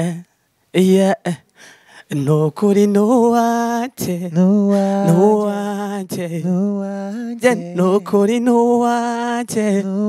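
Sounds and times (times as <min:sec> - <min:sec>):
man singing unaccompanied: 0:00.0 - 0:01.4, 0:02.1 - 0:10.0.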